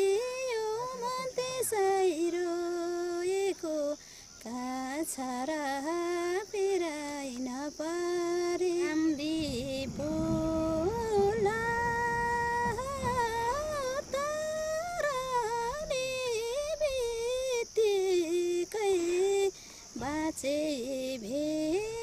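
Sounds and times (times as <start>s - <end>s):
woman singing folk song: 0.0s - 22.0s.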